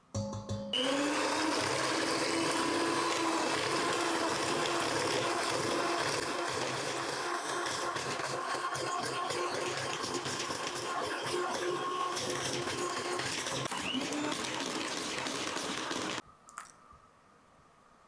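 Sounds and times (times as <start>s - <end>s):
beaters churning mixture: 0.8s - 16.2s
electric mixer motor whirring: 0.8s - 16.2s.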